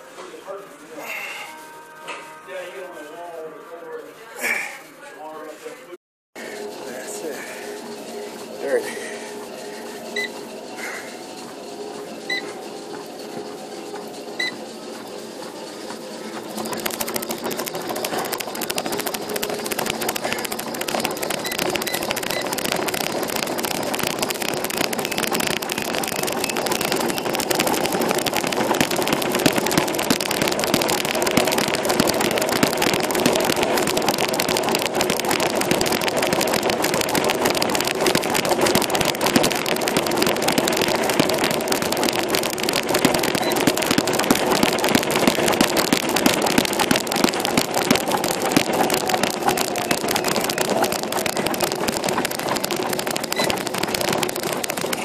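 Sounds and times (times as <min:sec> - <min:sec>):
exercise machine rattling: 0:06.4 - 0:55.0.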